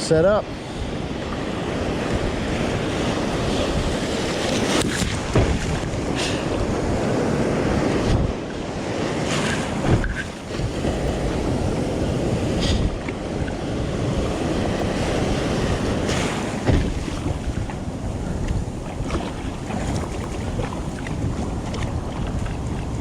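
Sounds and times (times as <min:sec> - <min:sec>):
surf washing: 0:00.0 - 0:23.0
wind buffeting microphone: 0:00.4 - 0:23.0.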